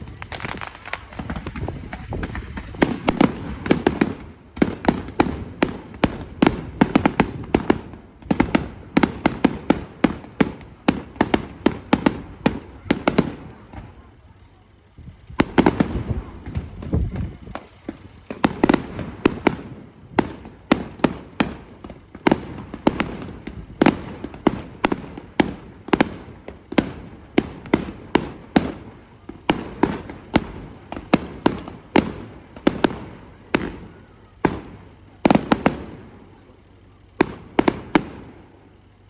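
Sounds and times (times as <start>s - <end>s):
fireworks banging: 0.0s - 39.0s.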